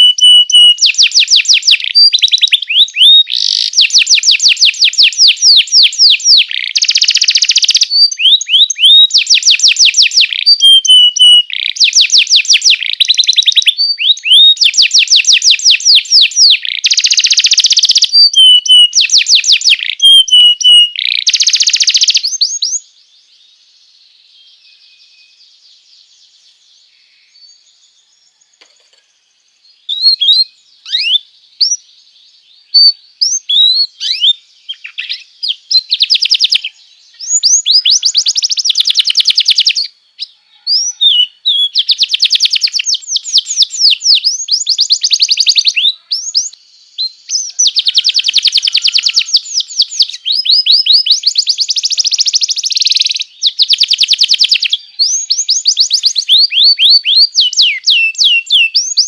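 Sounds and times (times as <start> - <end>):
bird chirps and rising whistles: 0.0 - 28.4, 29.6 - 59.0
canary singing trills: 0.0 - 59.0.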